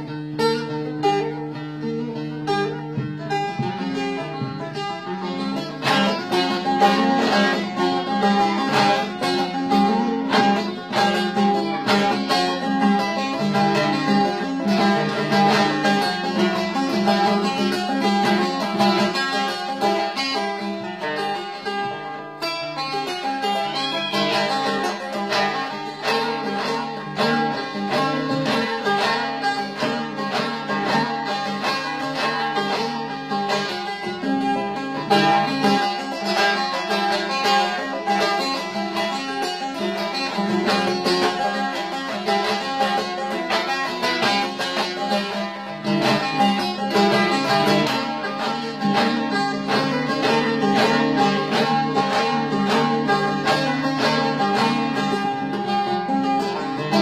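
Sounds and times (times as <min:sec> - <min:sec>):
plucked long-necked lute: 0:00.0 - 0:57.0.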